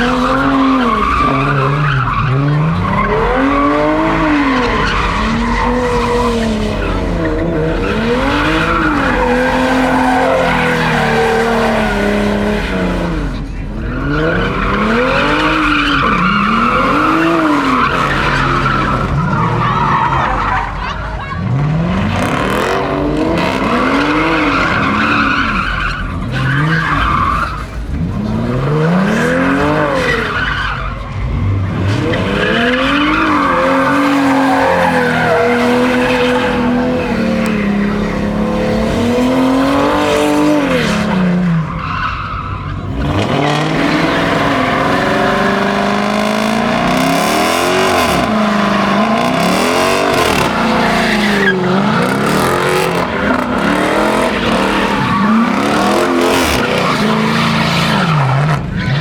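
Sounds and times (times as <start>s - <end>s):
car engine revving hard: 0.0s - 42.0s, 42.7s - 59.0s
tyres squealing on pavement: 0.0s - 59.0s.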